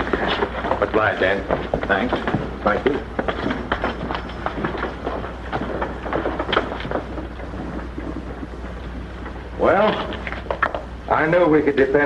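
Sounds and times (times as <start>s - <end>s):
footsteps: 0.0s - 11.1s.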